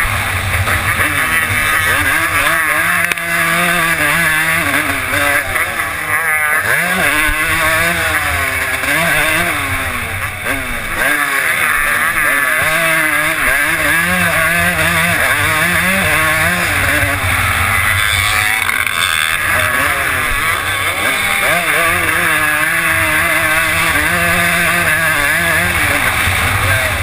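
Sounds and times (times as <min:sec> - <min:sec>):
motocross engine revving: 0:00.0 - 0:27.0.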